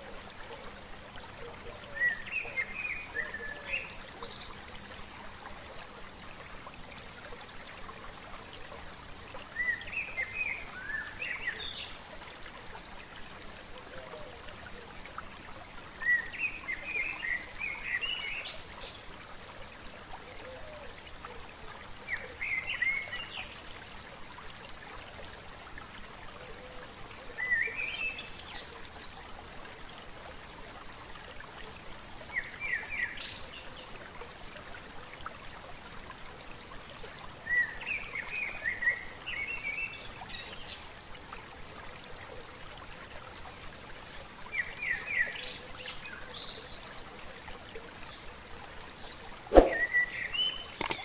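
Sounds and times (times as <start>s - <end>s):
water trickling: 0.0s - 51.0s.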